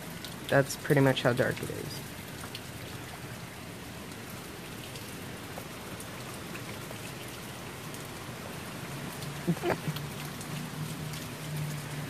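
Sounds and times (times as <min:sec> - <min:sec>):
raindrop ticks: 0:00.0 - 0:12.0
steady rain falling: 0:00.0 - 0:12.0.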